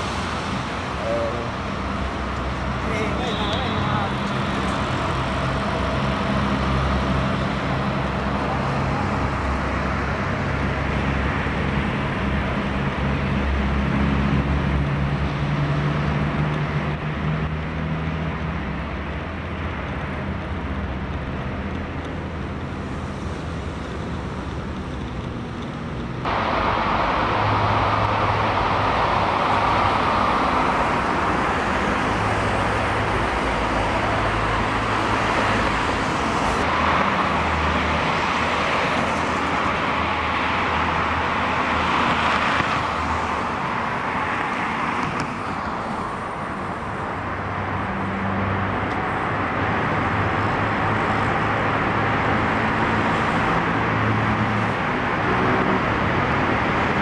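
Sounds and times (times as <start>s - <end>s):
road traffic rushing: 0.0s - 57.0s.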